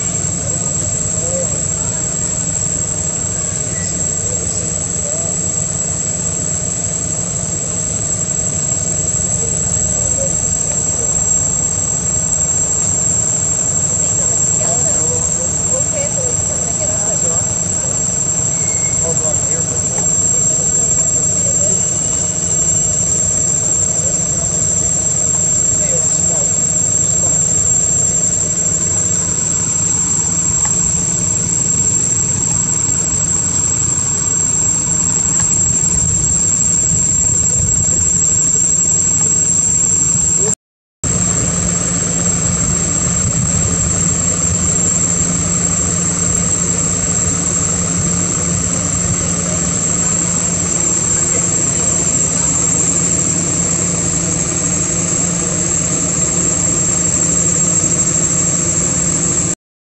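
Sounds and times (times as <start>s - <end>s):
high-pitched whine: 0.0s - 59.6s
loud engine-like drone: 0.0s - 59.6s.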